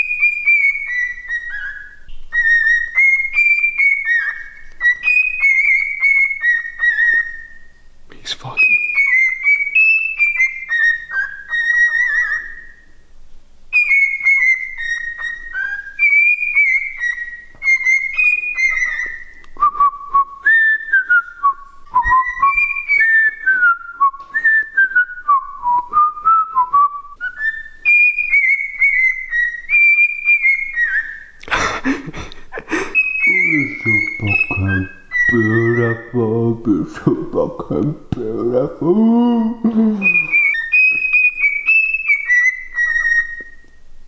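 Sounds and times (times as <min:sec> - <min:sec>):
cockatiel whistling a tune: 0:00.0 - 0:07.8, 0:08.6 - 0:12.9, 0:13.7 - 0:31.4, 0:32.9 - 0:36.2, 0:40.0 - 0:43.8.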